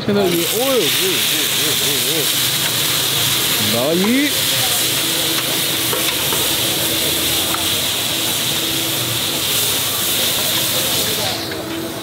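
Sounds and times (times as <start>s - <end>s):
meat sizzling in hot oil: 0.1s - 12.0s.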